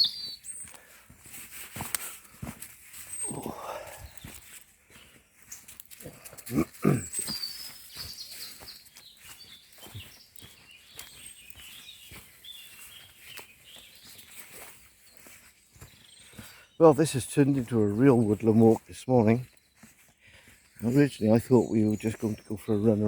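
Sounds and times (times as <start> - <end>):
birds chirping faintly: 0.0 - 23.0
footsteps on woodland path: 0.0 - 23.0.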